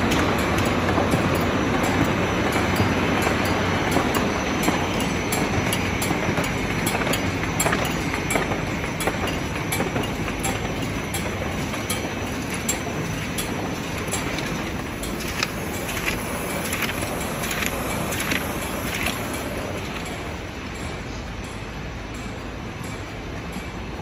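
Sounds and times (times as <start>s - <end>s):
low machine hum: 0.0s - 24.0s
machine clatter of belts and rollers: 0.0s - 24.0s.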